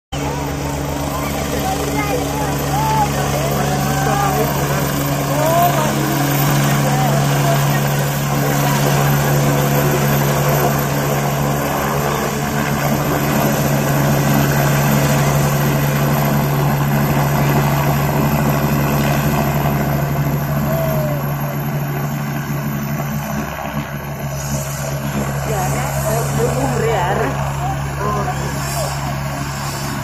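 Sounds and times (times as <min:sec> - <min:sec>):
helicopter rotor beat: 0:00.1 - 0:30.0
turbine whine: 0:00.1 - 0:30.0.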